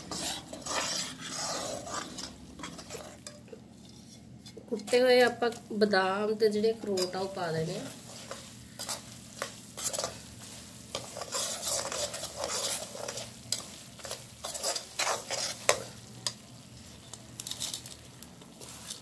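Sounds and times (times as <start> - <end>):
spoon scraping iron pan: 0.0 - 5.6, 6.8 - 16.4
ghee sizzling: 0.0 - 19.0.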